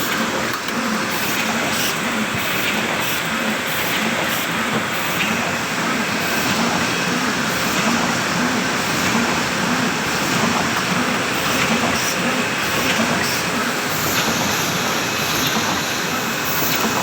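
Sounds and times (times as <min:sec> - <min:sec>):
printing machine clattering: 0:00.0 - 0:17.0.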